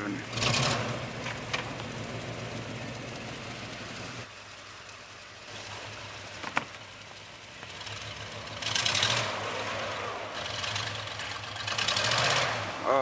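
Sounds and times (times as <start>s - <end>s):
vehicle engine idling: 0.0s - 9.2s, 9.8s - 12.0s.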